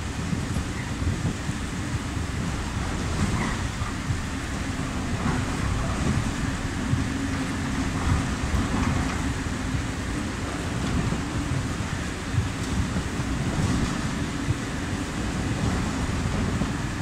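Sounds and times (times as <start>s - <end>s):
faint held hum: 0.0s - 17.0s
freight train rumbling past: 0.0s - 17.0s.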